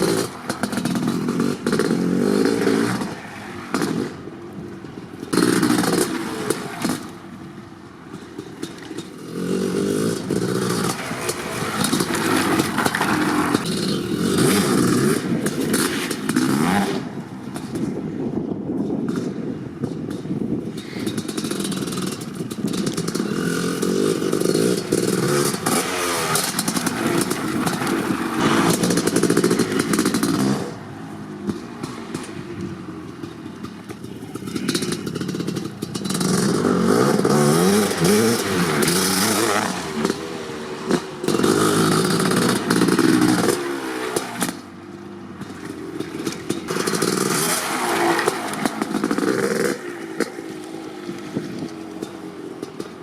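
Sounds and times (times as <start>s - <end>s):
two-stroke motorcycle engine revving: 0.0s - 4.3s, 5.2s - 7.3s, 8.1s - 18.0s, 21.0s - 53.0s.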